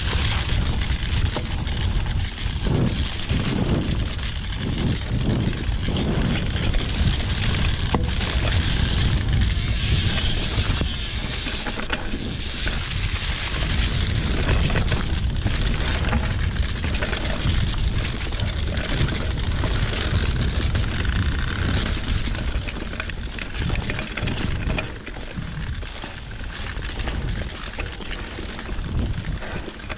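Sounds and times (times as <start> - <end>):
bike rattling over bumps: 0.0 - 29.9
wind rumble on microphone: 0.0 - 29.9.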